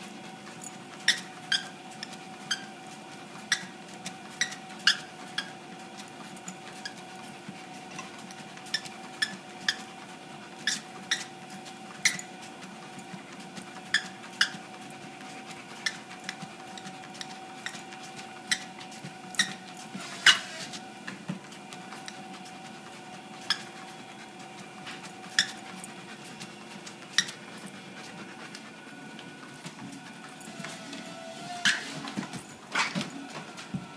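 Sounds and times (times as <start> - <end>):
dog claws clicking on belt: 0.0 - 20.4, 21.4 - 28.7
treadmill motor whine: 0.0 - 33.9.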